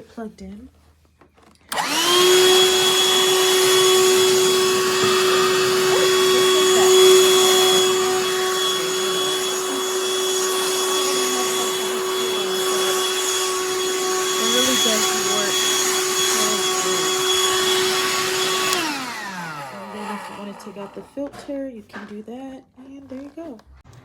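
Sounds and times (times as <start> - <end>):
handheld vacuum whining: 1.3 - 21.6.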